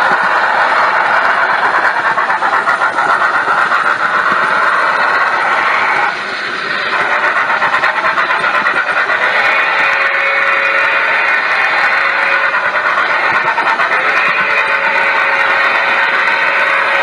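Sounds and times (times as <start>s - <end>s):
model train wheels clattering: 0.0s - 17.0s
steam locomotive running sounds: 0.0s - 17.0s.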